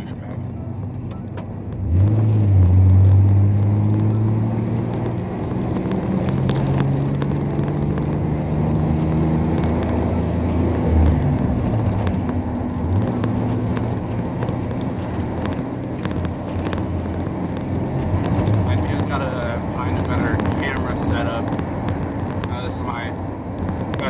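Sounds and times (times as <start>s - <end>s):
truck engine droning inside cab: 0.0s - 24.0s.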